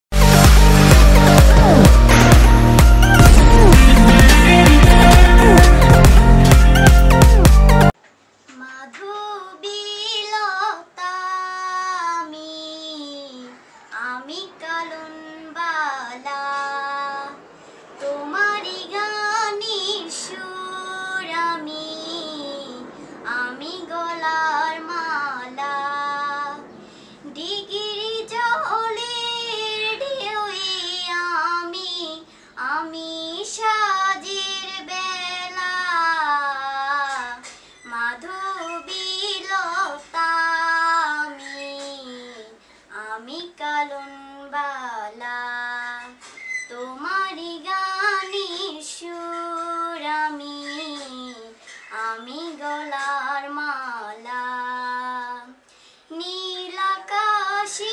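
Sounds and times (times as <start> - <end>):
woman singing unaccompanied: 0.4 - 7.3, 8.5 - 17.4, 18.0 - 57.9.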